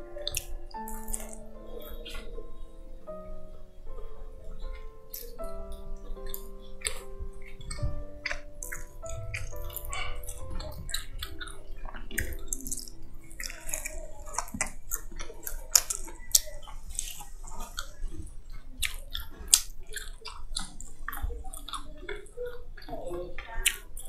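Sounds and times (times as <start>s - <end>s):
wet chewing and crunching: 0.0s - 3.2s, 3.9s - 24.0s
mouth clicks and smacks: 0.2s - 2.4s, 6.1s - 24.0s.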